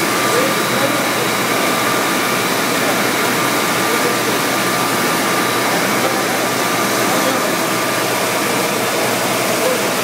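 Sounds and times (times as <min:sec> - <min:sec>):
machinery humming and hissing: 0:00.0 - 0:10.0.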